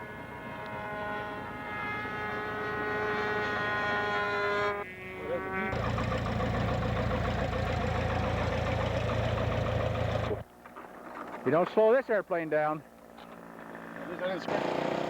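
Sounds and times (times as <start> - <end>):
model airplane engine buzzing: 0.0 - 10.5, 12.9 - 15.0
rough engine-like noise with hum: 0.0 - 10.6, 12.8 - 15.0.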